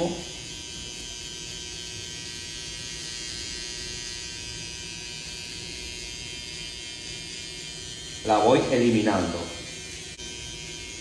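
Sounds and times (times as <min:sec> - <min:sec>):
hair trimmer humming: 0:00.0 - 0:11.0.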